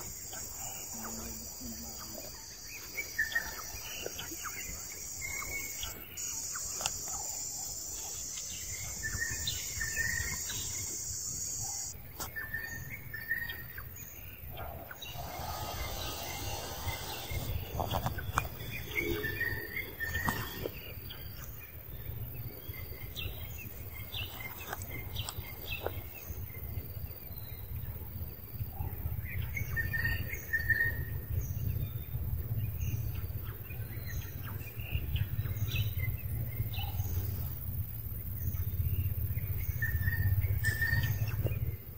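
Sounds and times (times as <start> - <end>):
high insect drone: 0.0 - 12.0, 12.8 - 41.9
small birds chirping: 0.0 - 28.0, 28.8 - 41.9.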